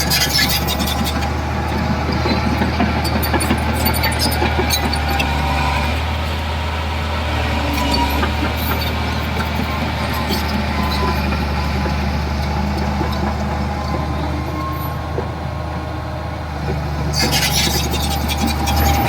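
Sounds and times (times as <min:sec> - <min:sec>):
diesel machine engine drone: 0:00.0 - 0:19.0.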